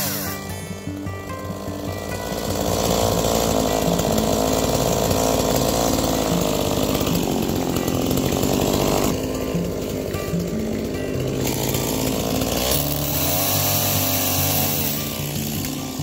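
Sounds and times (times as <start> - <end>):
chainsaw running at high revs: 0.0 - 16.0.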